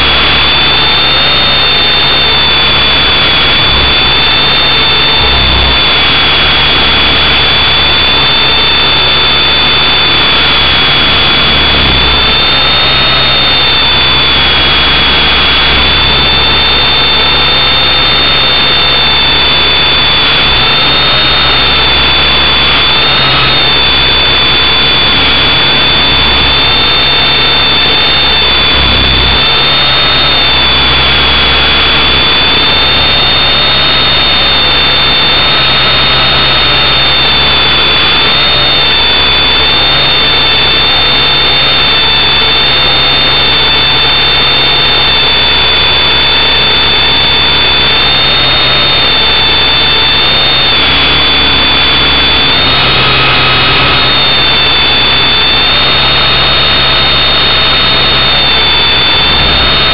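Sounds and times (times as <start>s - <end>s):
small motor whining: 0.0s - 59.9s.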